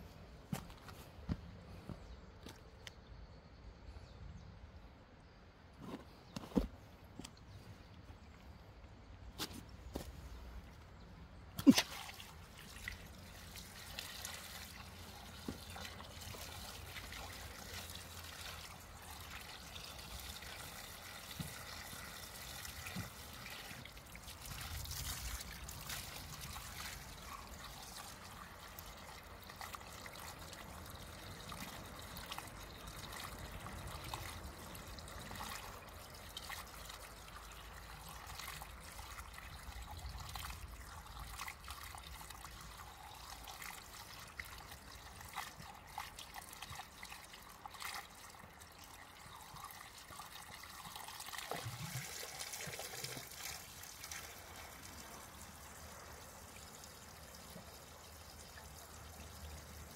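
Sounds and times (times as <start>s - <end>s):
water trickling onto stones: 11.4s - 59.9s.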